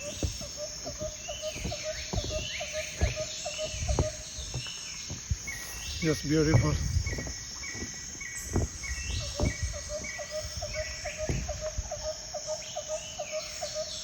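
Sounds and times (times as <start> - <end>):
low thumps: 0.0 - 11.9
birds calling: 0.0 - 14.0.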